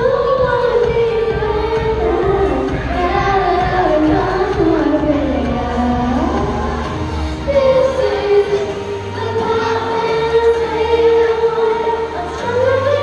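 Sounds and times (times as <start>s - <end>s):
girl singing into microphone: 0.0s - 13.0s.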